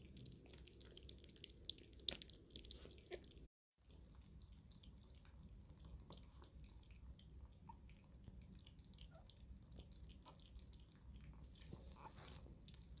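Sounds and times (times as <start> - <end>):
puppy lapping and smacking: 0.0 - 13.0.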